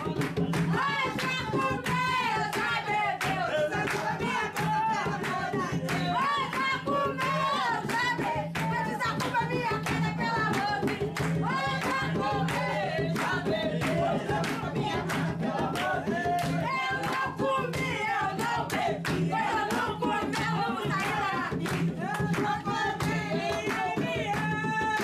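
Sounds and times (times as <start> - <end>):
handclaps: 0.0 - 25.0.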